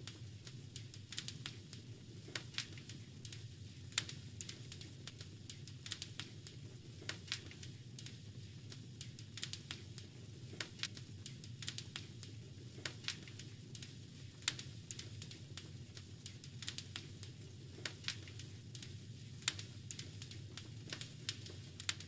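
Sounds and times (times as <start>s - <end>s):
fire crackling and popping: 0.0s - 22.0s
low rumble of burning: 0.0s - 22.0s.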